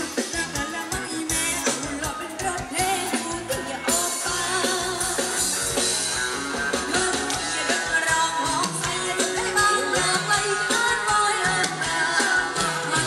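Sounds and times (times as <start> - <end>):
live band music through a pa: 0.0 - 13.0
person singing: 0.0 - 13.0
steady drum beat: 0.0 - 13.0.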